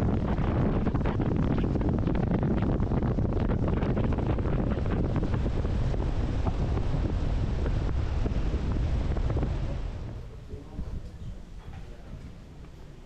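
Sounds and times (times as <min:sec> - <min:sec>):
boat engine: 0:00.0 - 0:13.0
water noise: 0:00.0 - 0:13.0
wind buffeting microphone: 0:00.0 - 0:13.0.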